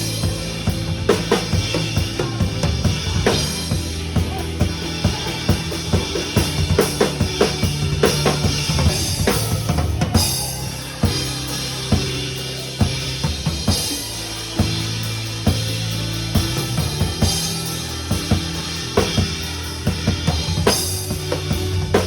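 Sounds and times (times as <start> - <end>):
bass and keyboard accompaniment: 0.0 - 22.0
drum kit bass and snare: 0.0 - 22.0.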